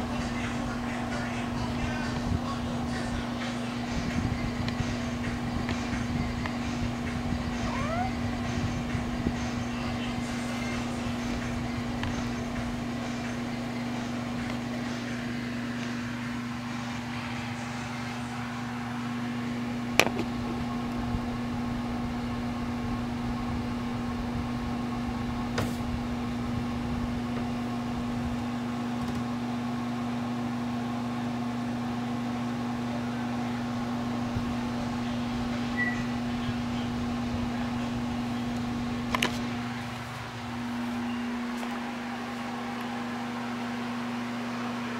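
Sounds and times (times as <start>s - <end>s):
appliance mechanical hum: 0.0s - 44.9s.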